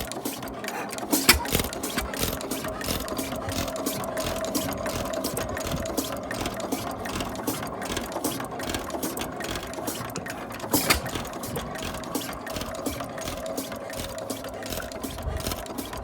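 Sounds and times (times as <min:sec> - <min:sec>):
engine knock: 0:00.0 - 0:16.0
stationary engine clattering: 0:00.0 - 0:16.0.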